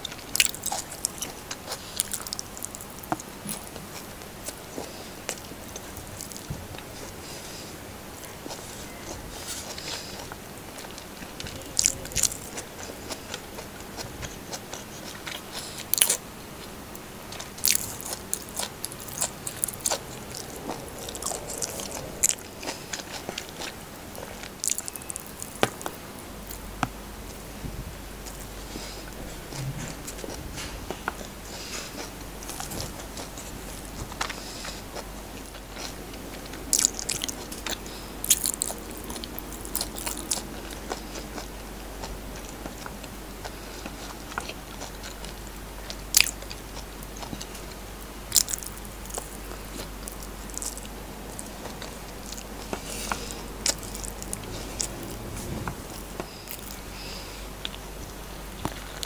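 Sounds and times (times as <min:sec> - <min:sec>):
chewing rice: 0:00.0 - 0:27.5, 0:28.1 - 0:59.0.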